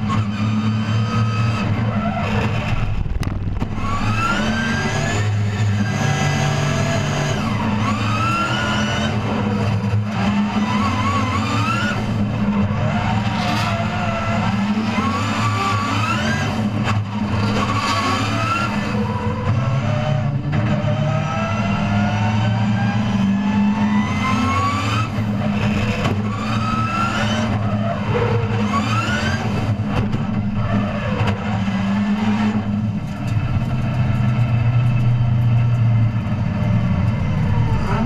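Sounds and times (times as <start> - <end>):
car engine revving hard: 0.0 - 35.0.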